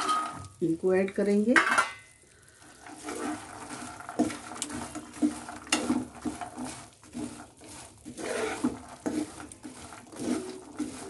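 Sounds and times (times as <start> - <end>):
metal spatula scraping a pan: 1.5 - 11.0.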